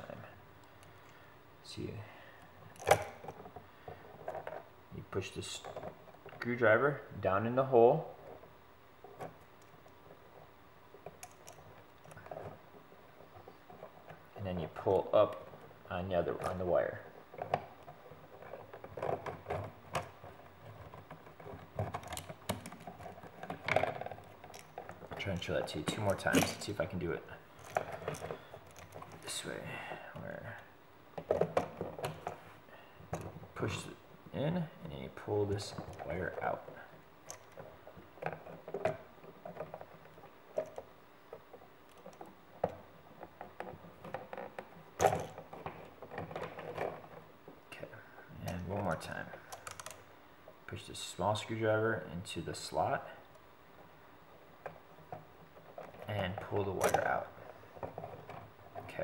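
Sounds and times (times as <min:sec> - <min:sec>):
small clicks and rustling: 0:02.4 - 0:06.7, 0:08.2 - 0:59.0.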